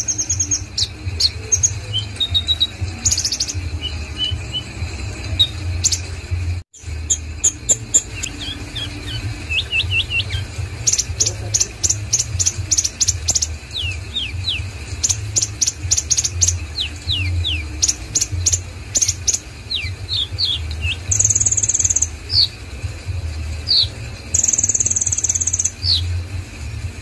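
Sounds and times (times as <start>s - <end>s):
bird chittering trills and whistles: 0.0s - 22.6s, 23.6s - 26.3s.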